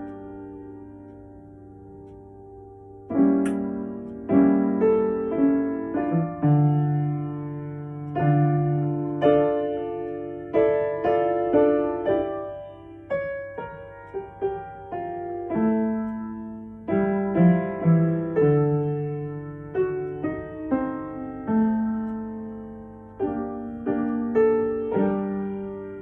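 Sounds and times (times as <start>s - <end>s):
gentle piano playing: 0.0s - 26.0s.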